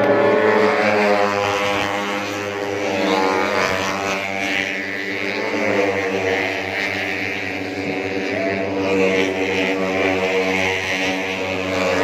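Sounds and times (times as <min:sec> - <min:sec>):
race motorcycles at high revs: 0:00.0 - 0:12.0.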